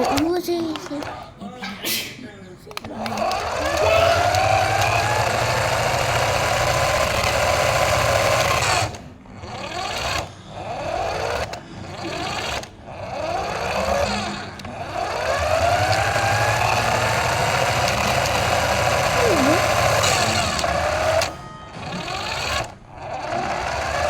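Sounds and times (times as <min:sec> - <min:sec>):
electric motor whining: 0:03.0 - 0:24.0.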